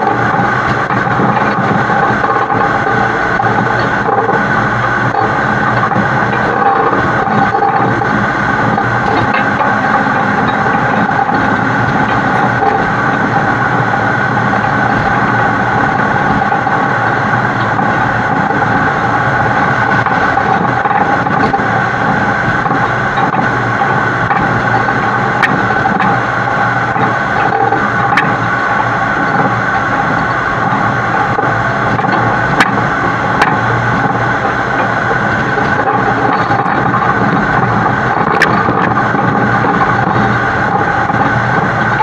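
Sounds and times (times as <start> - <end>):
truck engine and road noise: 0.0 - 42.0.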